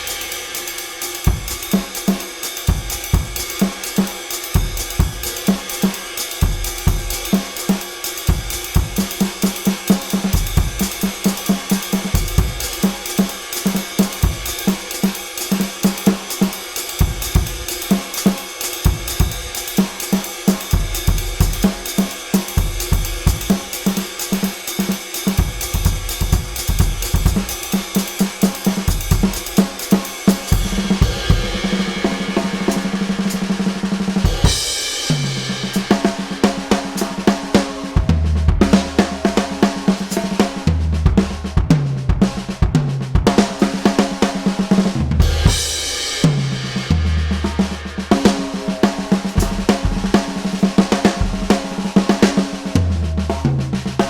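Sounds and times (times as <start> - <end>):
cymbals and hi-hat ringing: 0.0 - 38.0, 45.2 - 52.4
rapid drum rolls: 0.0 - 54.0.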